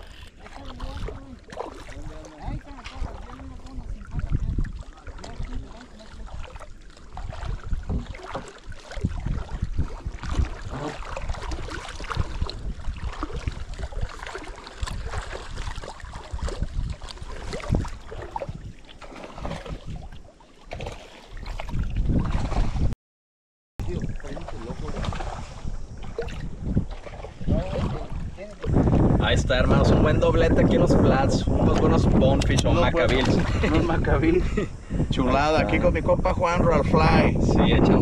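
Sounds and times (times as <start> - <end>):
water splashing: 0.0 - 23.0, 23.8 - 35.9
wind buffeting microphone: 0.0 - 23.0, 23.8 - 38.0.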